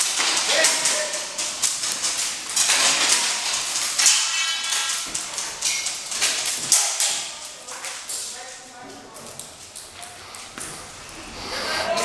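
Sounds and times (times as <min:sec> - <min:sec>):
pellets clattering off walls: 0:00.0 - 0:11.2.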